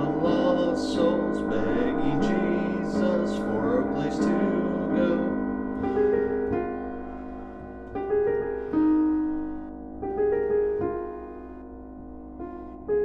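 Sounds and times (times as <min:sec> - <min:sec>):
piano chords ringing: 0:00.0 - 0:13.0.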